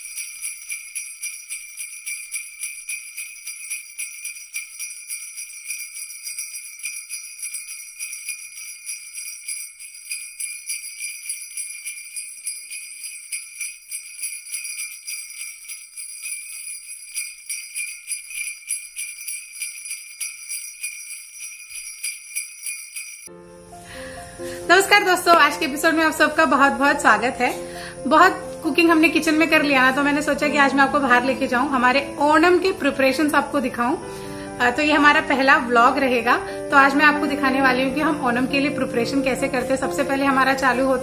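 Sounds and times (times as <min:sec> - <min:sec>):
small metal bells jingling: 0:00.0 - 0:23.3, 0:24.9 - 0:41.0.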